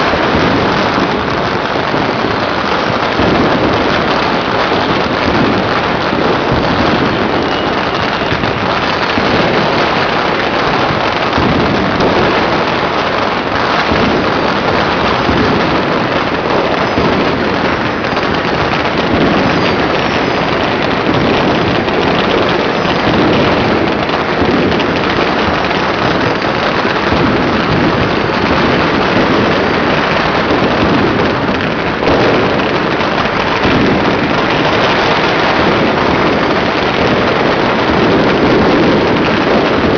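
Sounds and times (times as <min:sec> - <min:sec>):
firecrackers crackling and banging: 0:00.0 - 0:39.9
rising firework whistles: 0:00.0 - 0:39.9.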